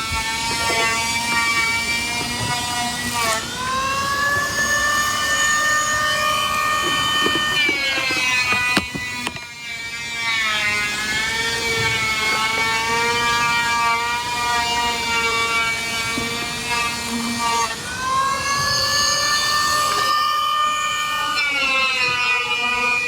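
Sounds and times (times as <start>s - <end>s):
power tool motor running: 0.0s - 23.0s.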